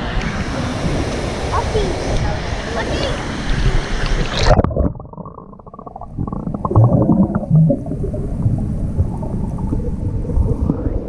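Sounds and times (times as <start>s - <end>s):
muffled underwater rumble: 0.0s - 11.0s
water bubbling: 0.0s - 11.0s.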